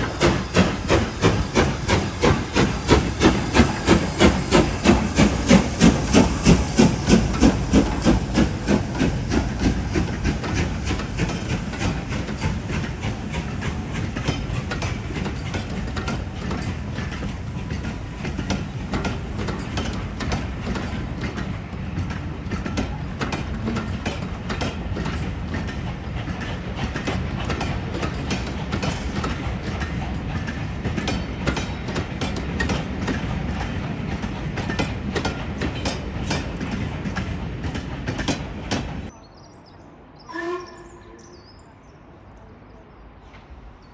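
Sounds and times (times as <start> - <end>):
steam locomotive exhaust beats: 0.0 - 39.1
train carriages rail clatter: 0.0 - 39.2.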